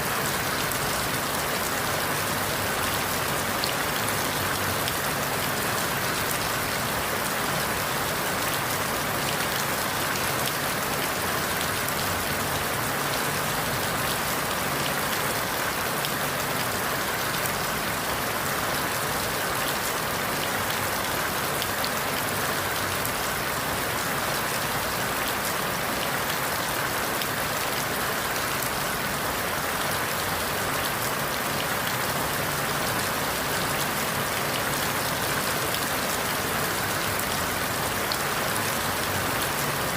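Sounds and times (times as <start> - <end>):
rain falling through leaves: 0.0 - 39.9.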